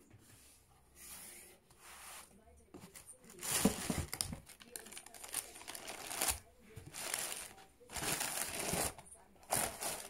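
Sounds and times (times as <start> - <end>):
tissue paper rustling: 1.1 - 10.0.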